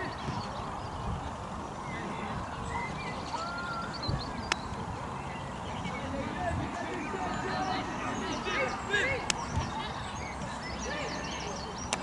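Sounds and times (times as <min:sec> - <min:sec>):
birds chirping: 0:00.0 - 0:12.0
distant voices: 0:00.0 - 0:12.0.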